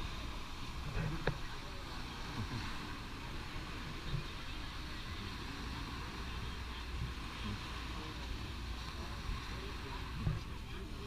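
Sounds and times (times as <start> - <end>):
faint distant voices: 0.0 - 11.0
low outdoor rumble: 0.0 - 11.0.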